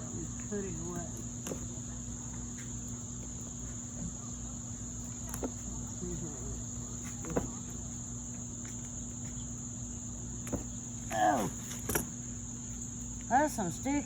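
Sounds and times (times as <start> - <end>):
high-pitched insect chorus: 0.0 - 14.0
low steady hum: 0.0 - 14.0.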